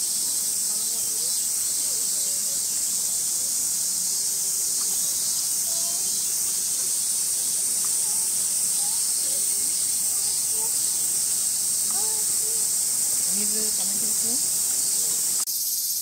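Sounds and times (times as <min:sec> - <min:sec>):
cicada chorus droning: 0:00.0 - 0:16.0.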